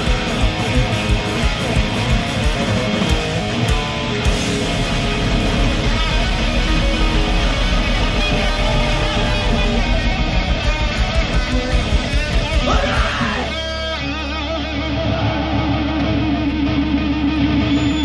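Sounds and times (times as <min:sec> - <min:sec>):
live heavy metal band: 0:00.0 - 0:18.0
repeating guitar riff: 0:00.0 - 0:18.0.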